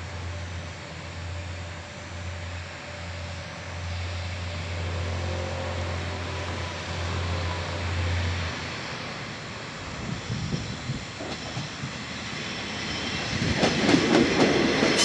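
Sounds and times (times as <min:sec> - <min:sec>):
diesel railcar engines droning: 0:00.0 - 0:15.0.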